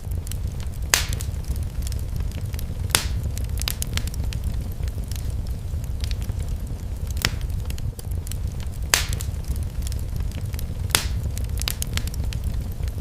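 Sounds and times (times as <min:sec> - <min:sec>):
low rumble: 0:00.0 - 0:13.0
sharp fire pops: 0:00.0 - 0:13.0
wood fire crackling: 0:00.0 - 0:13.0.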